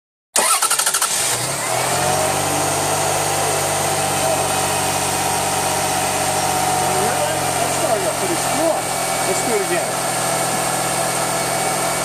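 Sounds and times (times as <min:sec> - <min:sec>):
car engine idling: 0:00.4 - 0:12.0
starter motor cranking engine: 0:00.4 - 0:12.0.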